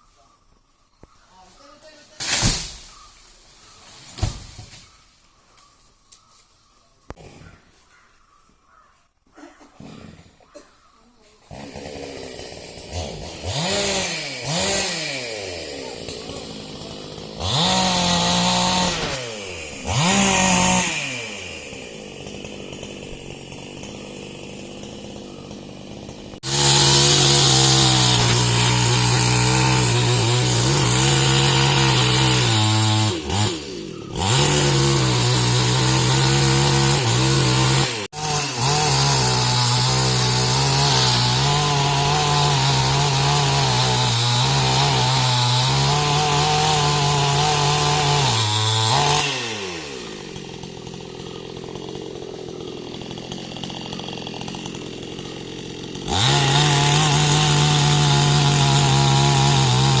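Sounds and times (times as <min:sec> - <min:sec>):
chainsaw cutting wood: 0:02.2 - 0:03.1, 0:03.8 - 0:04.8, 0:11.4 - 1:00.0.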